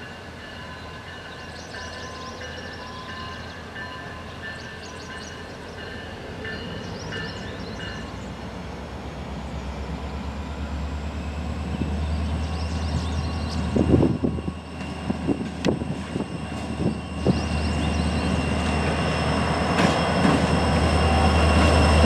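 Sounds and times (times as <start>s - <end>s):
diesel locomotive engines droning: 0.0s - 22.0s.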